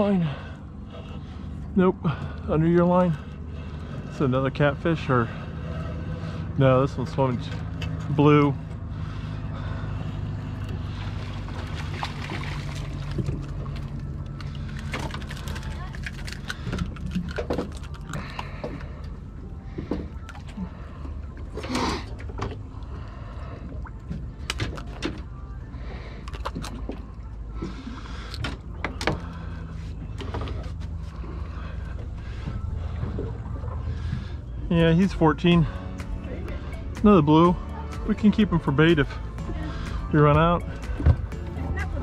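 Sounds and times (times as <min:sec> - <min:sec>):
boat engine humming: 0:00.0 - 0:42.0
water noise: 0:00.0 - 0:42.0
wind: 0:00.0 - 0:42.0.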